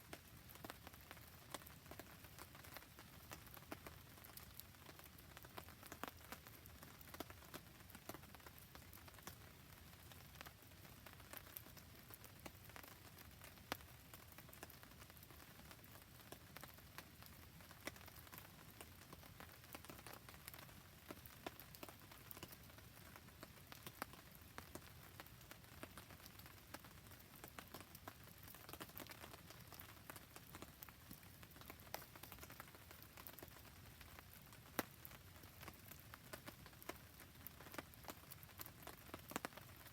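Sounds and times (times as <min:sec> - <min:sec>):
steady rain falling: 0:00.0 - 0:39.9
campfire crackling: 0:00.1 - 0:39.9.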